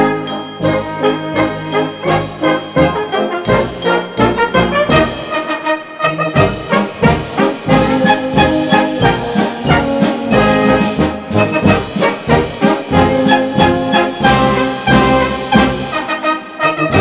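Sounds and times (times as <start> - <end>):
brass band playing lively tune: 0.0 - 17.0.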